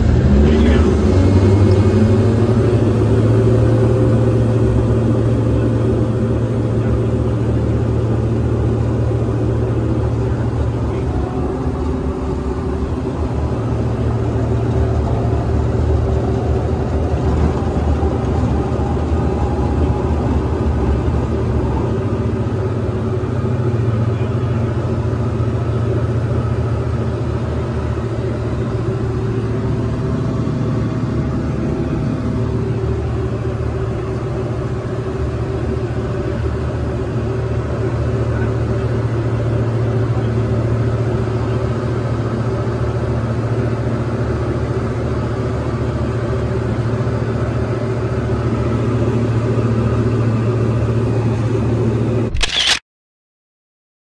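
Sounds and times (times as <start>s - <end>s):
aircraft engine and propeller drone: 0.0s - 52.8s.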